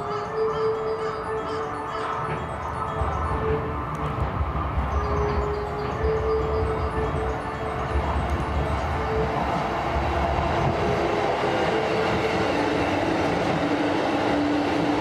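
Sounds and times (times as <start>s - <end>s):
electric train whine: 0.0s - 15.0s
train wheel rumble: 0.0s - 15.0s.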